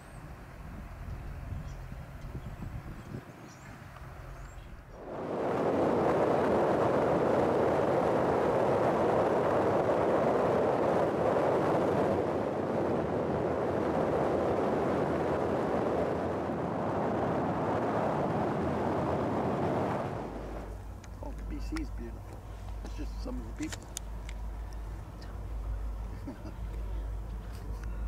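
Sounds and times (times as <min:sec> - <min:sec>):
car tyre and wind noise: 0:00.0 - 0:28.0.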